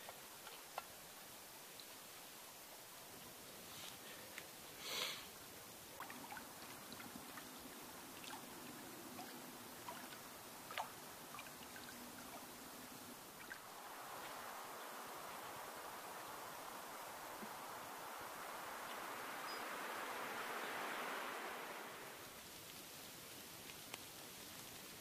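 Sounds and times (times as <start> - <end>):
light drips and ticks: 0.0 - 4.7, 5.4 - 14.6, 18.7 - 25.0
rustle: 0.0 - 25.0
soft hiss: 0.0 - 25.0.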